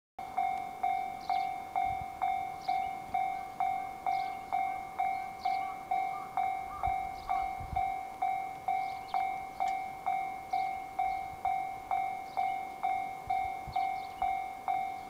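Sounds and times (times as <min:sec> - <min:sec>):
level-crossing warning bell ringing: 0:00.2 - 0:15.0.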